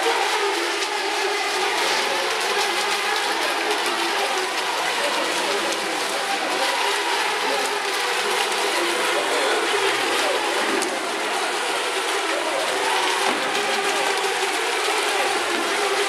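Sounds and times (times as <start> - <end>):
rc boat motors whining: 0.0 - 16.0.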